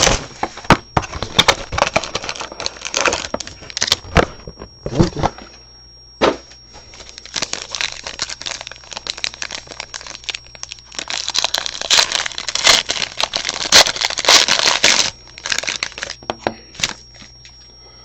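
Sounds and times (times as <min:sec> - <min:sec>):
plastic packaging crinkling: 0:00.0 - 0:05.2, 0:06.9 - 0:17.6.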